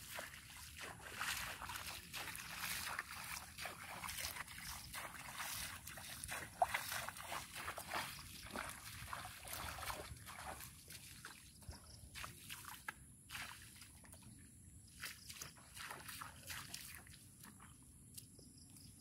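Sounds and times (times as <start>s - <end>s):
feet splashing in shallow water: 0.0s - 19.0s.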